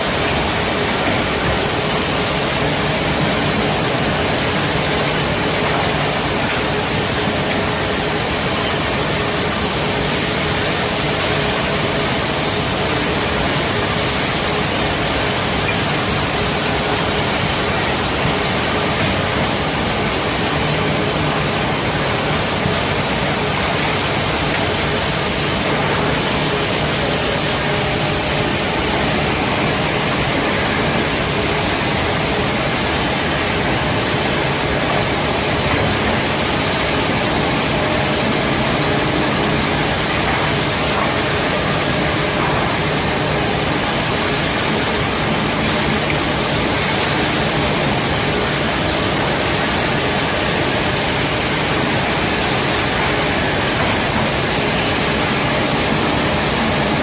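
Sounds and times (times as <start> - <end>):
woodworking machine running: 0.0 - 57.0.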